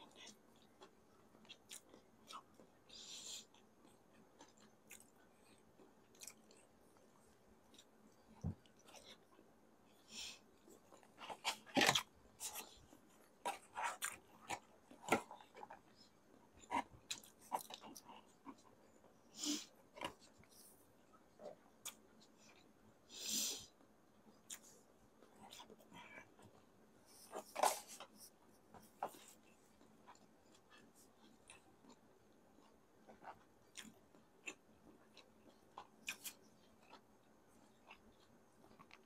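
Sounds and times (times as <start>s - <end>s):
chewing and wet mouth sounds: 0.0s - 9.5s, 10.5s - 19.2s, 23.7s - 39.0s.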